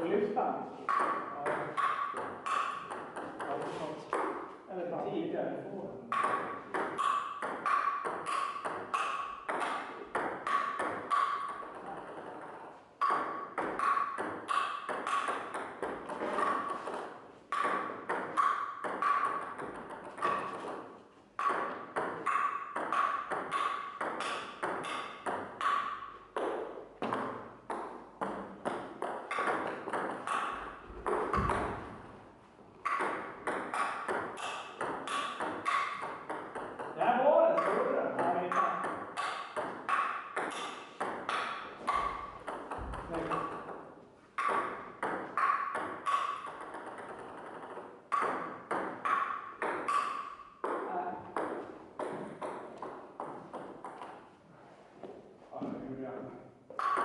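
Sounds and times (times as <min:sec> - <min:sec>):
table tennis balls clicking: 0:00.9 - 0:04.6, 0:06.1 - 0:32.0, 0:32.7 - 0:54.3, 0:56.7 - 0:57.0.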